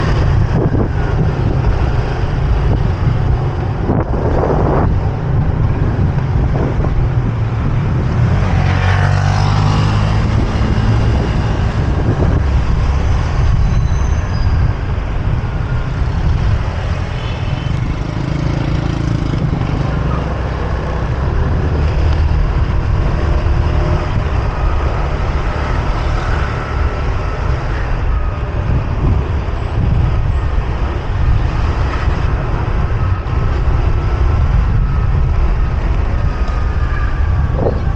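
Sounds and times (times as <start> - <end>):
motorbike engine rumble: 0.0 - 37.9
vehicles passing: 0.0 - 37.9.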